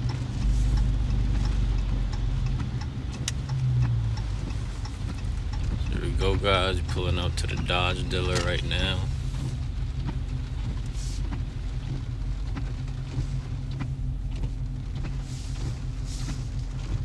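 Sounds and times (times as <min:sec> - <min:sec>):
car engine rumbling: 0:00.0 - 0:17.0
light rain ticks: 0:00.0 - 0:17.0.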